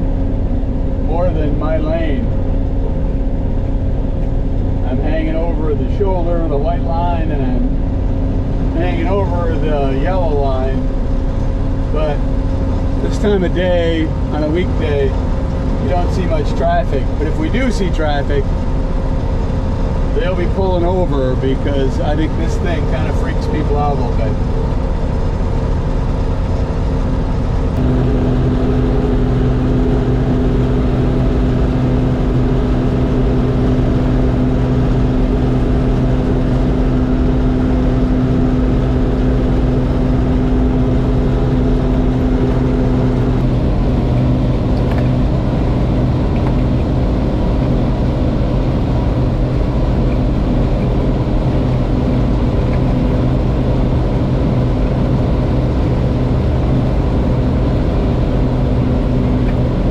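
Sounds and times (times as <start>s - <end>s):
combine engine droning: 0.0s - 59.9s.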